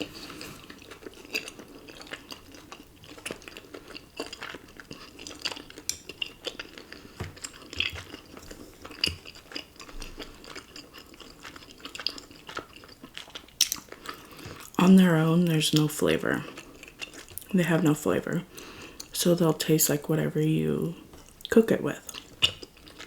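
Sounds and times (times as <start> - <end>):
close chewing with wet mouth clicks: 0.0 - 14.8, 15.7 - 17.5, 18.6 - 19.2, 21.2 - 23.0.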